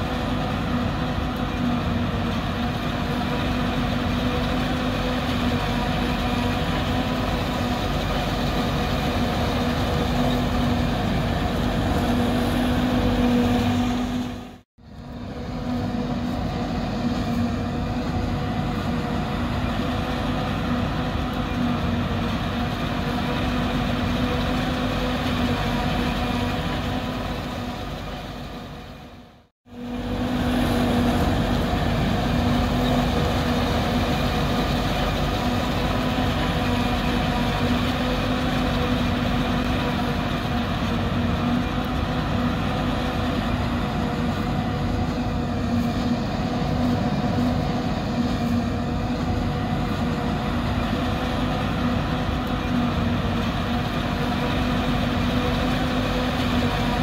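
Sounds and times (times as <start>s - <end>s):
forage harvester and tractors droning: 0.0s - 57.0s.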